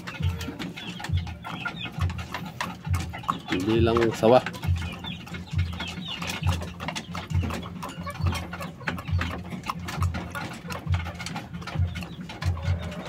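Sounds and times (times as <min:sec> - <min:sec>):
beak pecking plastic bowl: 0:00.0 - 0:13.0.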